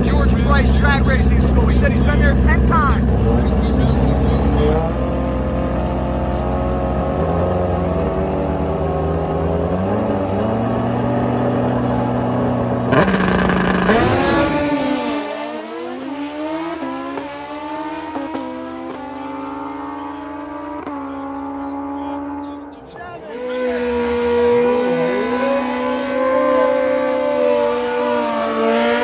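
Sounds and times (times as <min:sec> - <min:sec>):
motorcycle engines at full throttle: 0:00.0 - 0:29.0.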